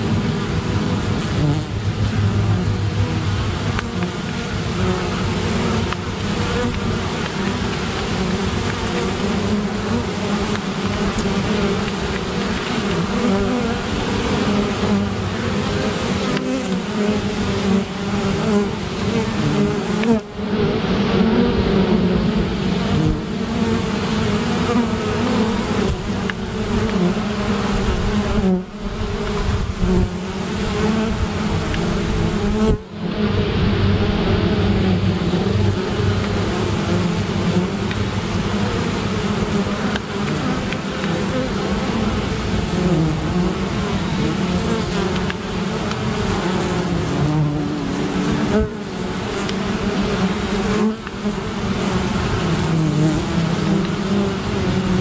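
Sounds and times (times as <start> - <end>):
bees buzzing around a hive: 0.0 - 55.0.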